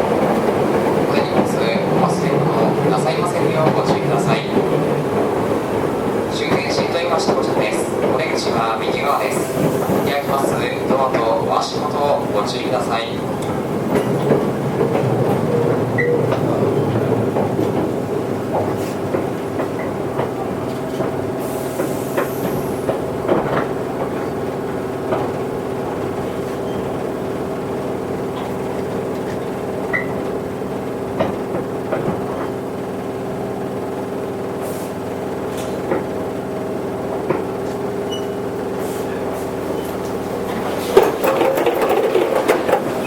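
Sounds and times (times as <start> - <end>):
train wheels clicking: 0.0 - 33.4, 34.6 - 43.0
electric train humming: 0.0 - 43.0.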